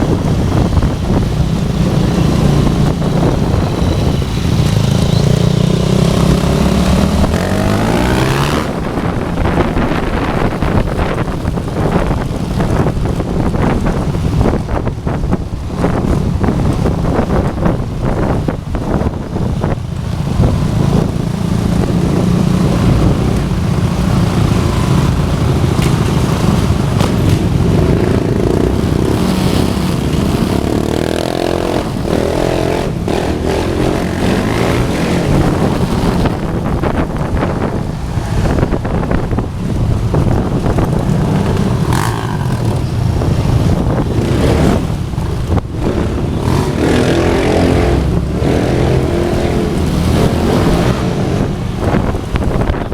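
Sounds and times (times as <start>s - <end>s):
motorcycle engines running: 0.0s - 52.9s.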